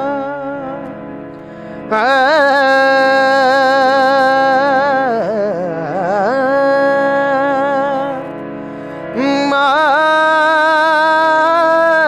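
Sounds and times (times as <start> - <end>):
boy singing with vibrato: 0.0 - 1.0, 1.7 - 12.0.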